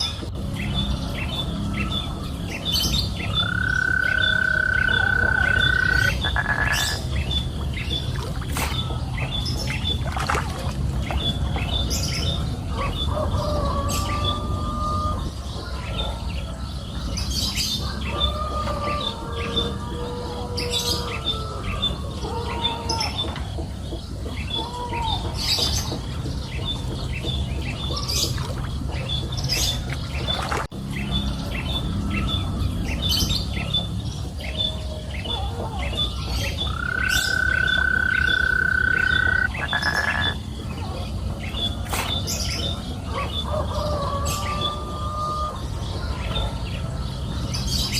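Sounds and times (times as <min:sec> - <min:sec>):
birds chirping and calling: 0:00.0 - 0:47.9.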